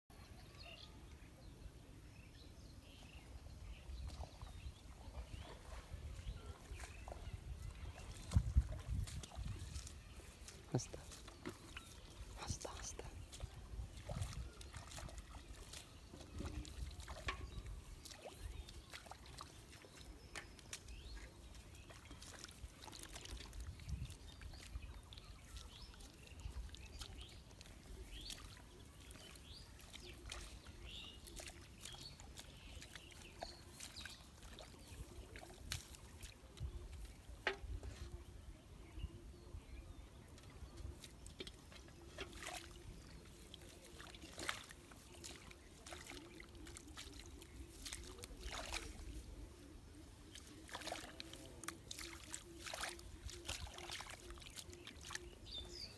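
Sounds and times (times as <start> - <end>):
hands splashing in muddy water: 5.1 - 37.8, 40.3 - 55.9.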